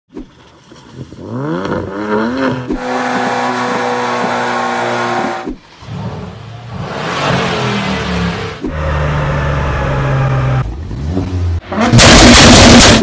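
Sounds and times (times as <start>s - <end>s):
car engines revving: 0.9s - 13.0s.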